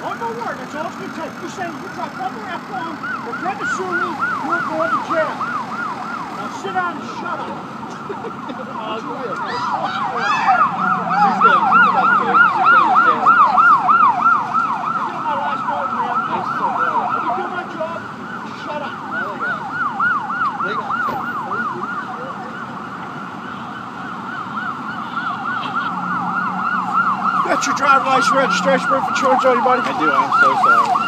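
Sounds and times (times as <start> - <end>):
siren yelping: 0.0 - 31.0.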